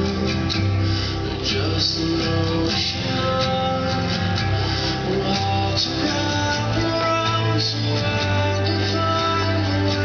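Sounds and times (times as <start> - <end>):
guitar over bass music: 0.0 - 10.0.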